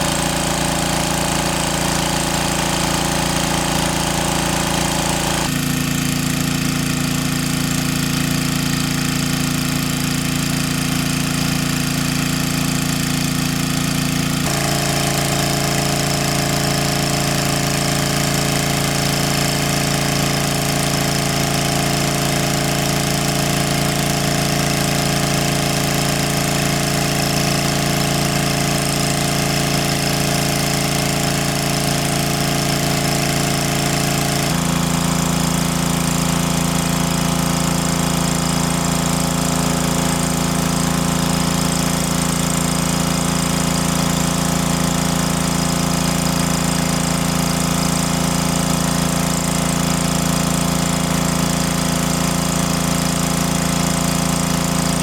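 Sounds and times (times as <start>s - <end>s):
small engine chugging: 0.0s - 55.0s.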